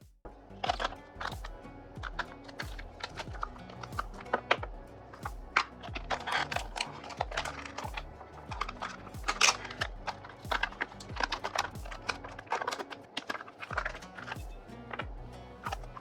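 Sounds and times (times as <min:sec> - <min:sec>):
deep electronic beat music: 0:00.0 - 0:16.0.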